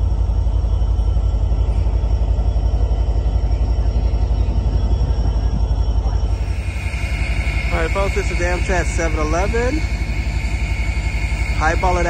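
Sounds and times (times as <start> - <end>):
diesel locomotive idling: 0.0 - 12.0.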